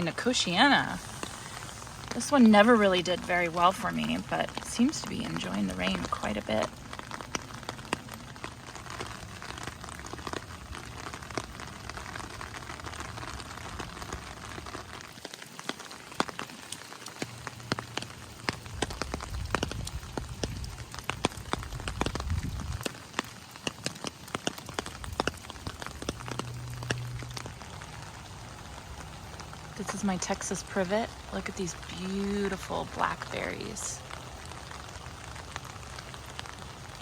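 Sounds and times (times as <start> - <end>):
raindrops tapping sharply: 0.0 - 37.0
steady rain falling: 0.0 - 37.0.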